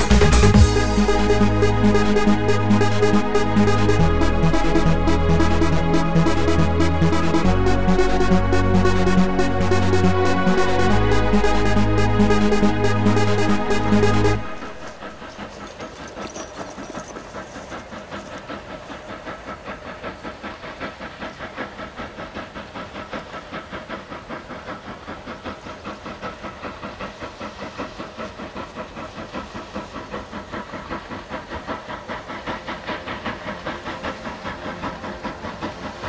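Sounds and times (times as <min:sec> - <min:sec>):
steam hissing: 0:00.0 - 0:36.0
steam locomotive chuffing: 0:00.0 - 0:36.0.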